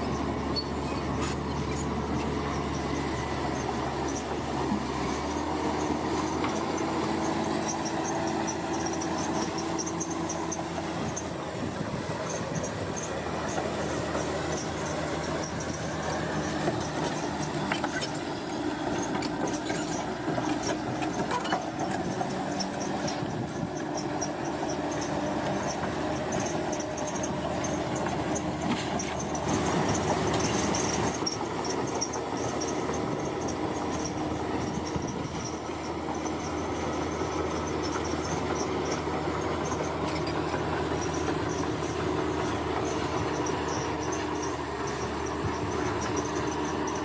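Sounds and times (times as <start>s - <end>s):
bulldozer diesel engine: 0.0s - 47.0s
machine clanking and scraping: 0.0s - 47.0s.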